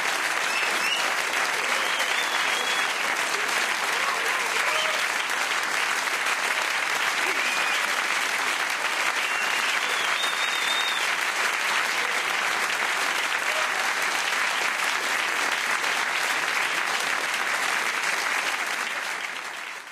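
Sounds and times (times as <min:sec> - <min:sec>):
audience applauding: 0:00.0 - 0:19.9.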